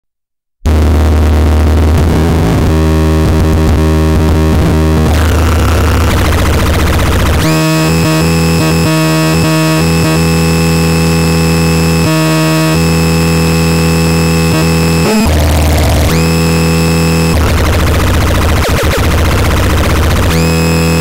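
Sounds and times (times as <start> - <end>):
harsh distorted drone: 0.7 - 21.0
loud stuttering buzzing tone: 0.7 - 21.0.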